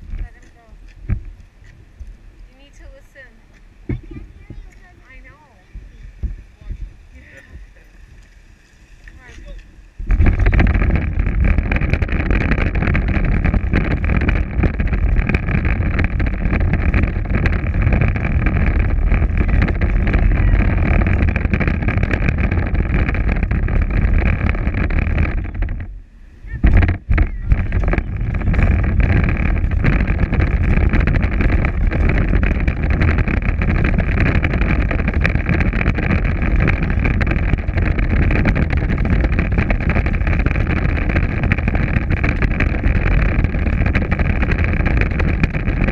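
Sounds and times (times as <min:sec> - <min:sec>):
plastic wheels rumbling on pavement: 0:00.0 - 0:45.9.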